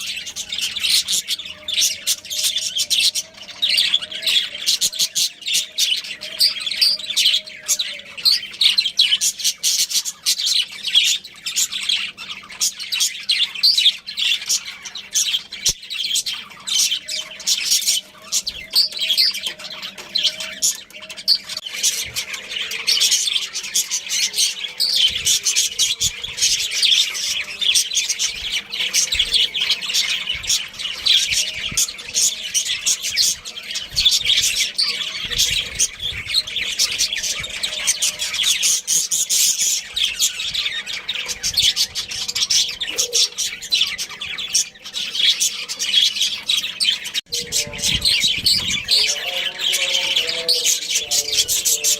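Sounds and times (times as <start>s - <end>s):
budgerigars chirping and squawking: 0.0s - 51.9s.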